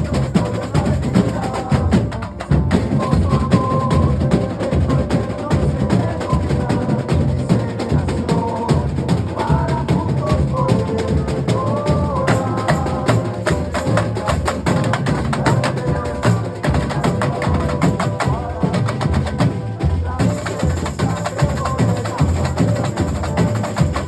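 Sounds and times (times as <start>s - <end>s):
drum section playing dense rhythm: 0.0s - 24.0s.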